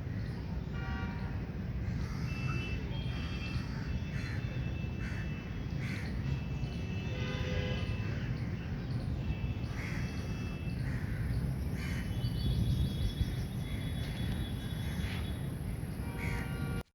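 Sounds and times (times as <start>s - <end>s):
birds calling harshly: 1.1s - 16.8s.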